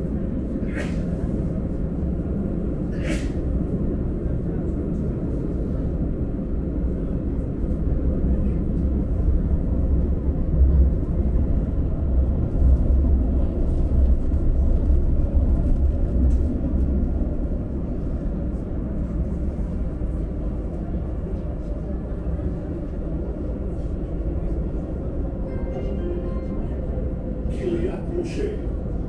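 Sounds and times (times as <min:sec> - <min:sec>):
tram rumbling: 0:00.0 - 0:29.0.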